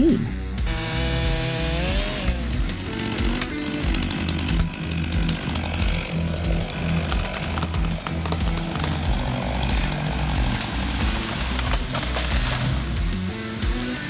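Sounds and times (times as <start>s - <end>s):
music with low beat: 0.0s - 14.0s
chainsaw cutting: 0.3s - 14.0s.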